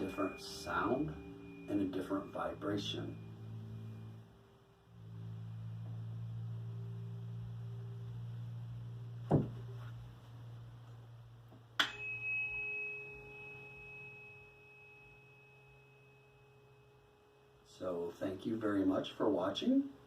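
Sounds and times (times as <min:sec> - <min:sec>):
tuning fork ringing high: 0:00.0 - 0:09.2, 0:11.8 - 0:19.8
low tuning fork humming: 0:00.0 - 0:19.8.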